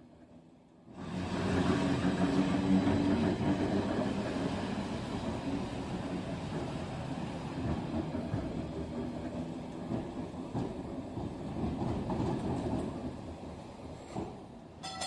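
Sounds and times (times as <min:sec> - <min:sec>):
model tram rumbling on track: 0:00.0 - 0:15.0.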